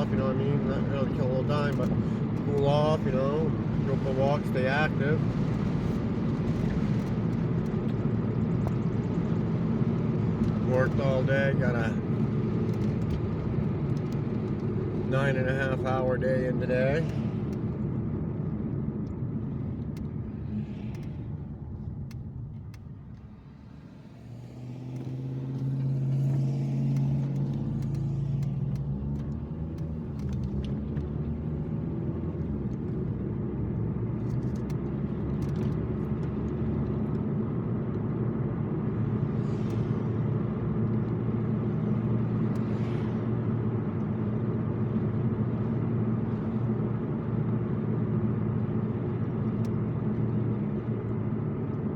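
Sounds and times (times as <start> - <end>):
car engine from inside cabin: 0.0 - 51.9.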